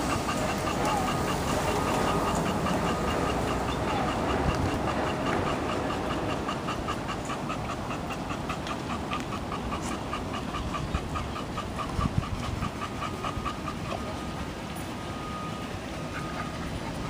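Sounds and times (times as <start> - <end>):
dog panting: 0.0 - 17.0
traffic rumble: 0.0 - 17.0
wind: 0.0 - 17.0.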